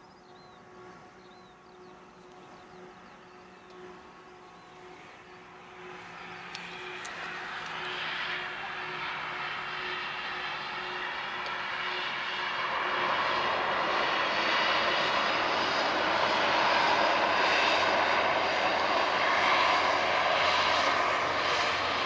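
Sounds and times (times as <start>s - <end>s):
airliner engines approaching: 0.0s - 22.0s.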